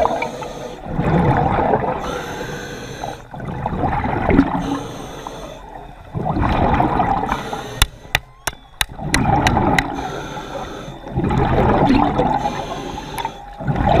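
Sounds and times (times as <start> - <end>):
water gurgling and sloshing: 0.0 - 14.0.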